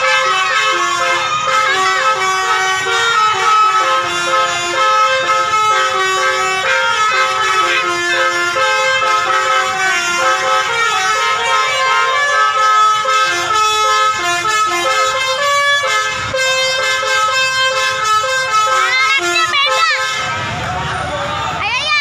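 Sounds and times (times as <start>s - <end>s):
multi-tone bus horn tune: 0.0s - 20.7s.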